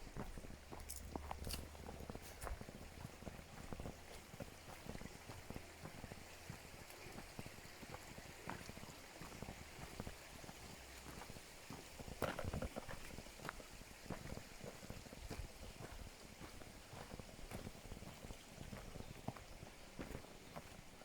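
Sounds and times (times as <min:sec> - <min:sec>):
footsteps on forest trail: 0:00.0 - 0:21.0.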